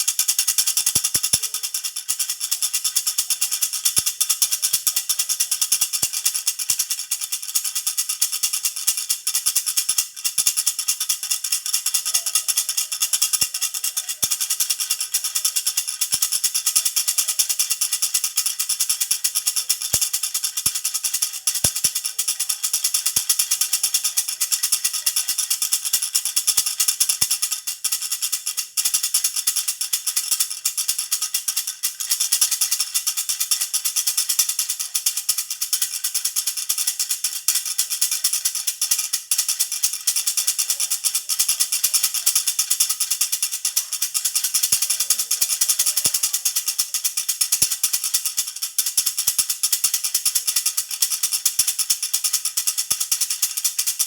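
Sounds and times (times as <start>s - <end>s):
baby rattle jingling: 0.0s - 54.0s.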